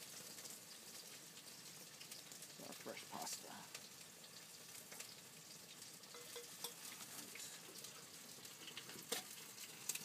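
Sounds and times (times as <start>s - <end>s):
food sizzling in hot pans: 0.0s - 10.0s.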